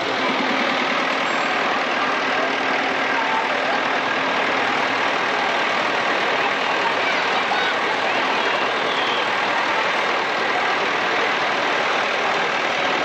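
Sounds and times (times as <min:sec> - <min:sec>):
outdoor hubbub: 0:00.0 - 0:13.0
vehicle engine running at low revs: 0:00.0 - 0:13.0.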